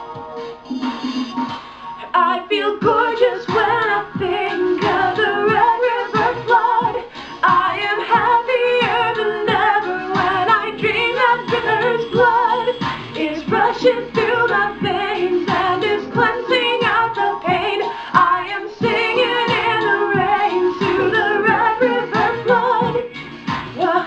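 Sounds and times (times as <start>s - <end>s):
harmony vocal: 0.0s - 24.0s
woman singing with vibrato: 2.0s - 23.1s, 23.8s - 24.0s.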